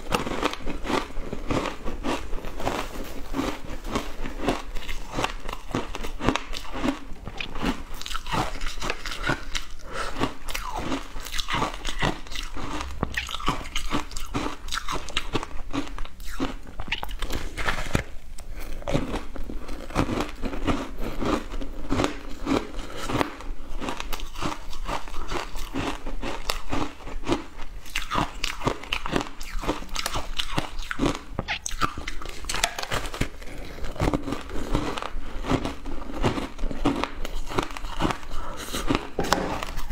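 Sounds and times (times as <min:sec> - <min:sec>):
chewing crunchy ice: 0:00.0 - 0:39.9.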